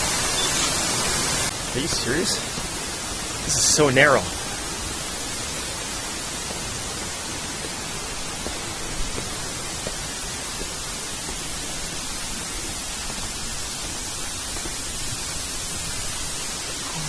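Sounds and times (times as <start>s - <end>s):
waterfall rushing: 0.2s - 17.0s.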